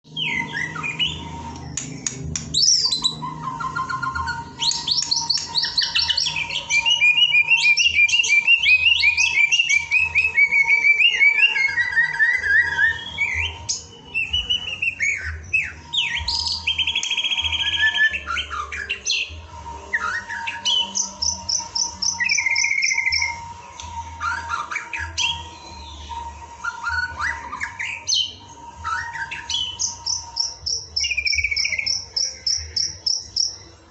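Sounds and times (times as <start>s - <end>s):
songbird singing trills: 0.1s - 33.9s.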